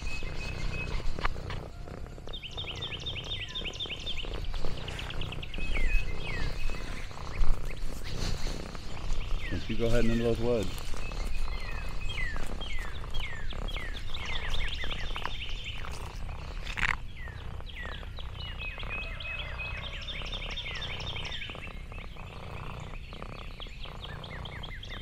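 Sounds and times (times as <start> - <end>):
high chirping animal calls: 0.0 - 25.0
steady low rumble: 0.0 - 25.0.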